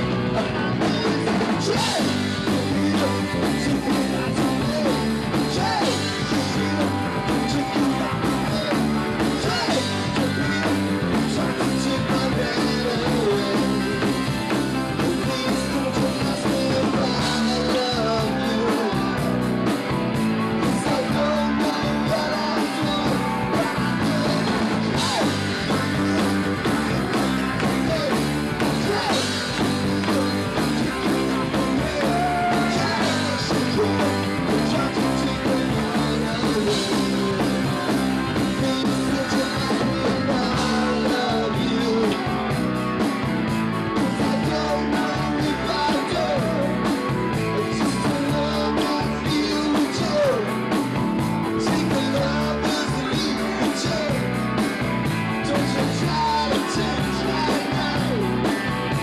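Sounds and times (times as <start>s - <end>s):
singer singing into microphone: 0.0s - 19.6s, 20.6s - 26.5s, 27.4s - 42.7s, 44.0s - 50.7s, 51.5s - 54.5s, 55.3s - 58.6s
drums: 0.0s - 59.0s
electric guitar: 0.0s - 59.0s.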